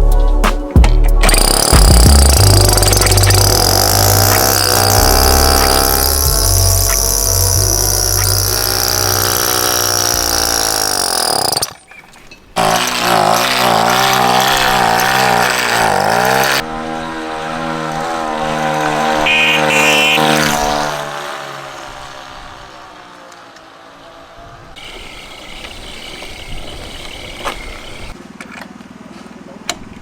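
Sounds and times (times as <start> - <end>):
small engine revving: 1.2 - 11.8, 12.6 - 28.2.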